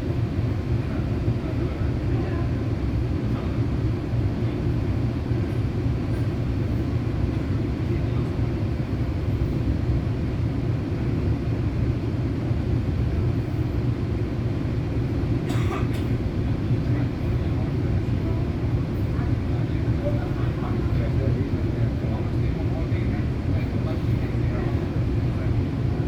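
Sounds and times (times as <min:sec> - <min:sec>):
train rumble inside coach: 0:00.0 - 0:26.0.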